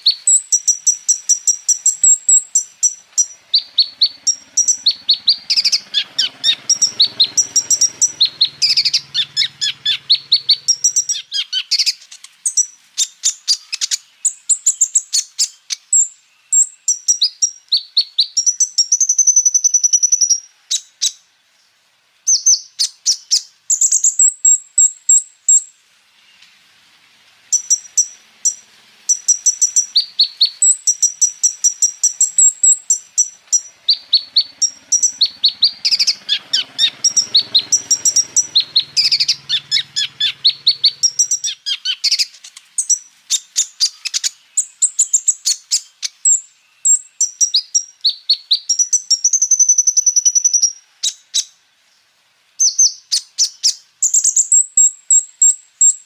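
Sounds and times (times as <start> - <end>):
sunbird singing high chirps and trills: 0.0 - 26.7, 27.4 - 56.0.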